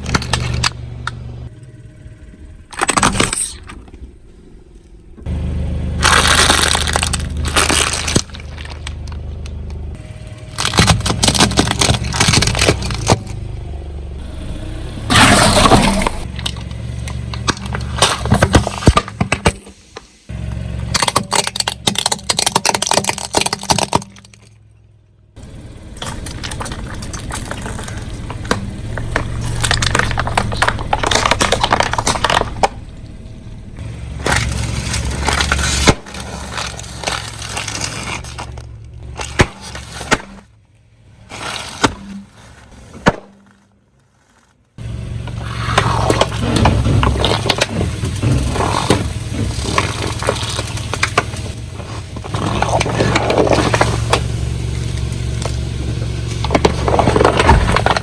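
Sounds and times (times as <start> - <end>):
tyre crushing brittle objects: 0.0 - 0.8, 2.7 - 3.8, 6.0 - 13.4, 14.2 - 20.2, 20.8 - 24.7, 25.4 - 32.8, 34.1 - 40.5, 41.2 - 58.0
low hum: 0.0 - 19.1, 24.5 - 41.3, 44.8 - 58.0.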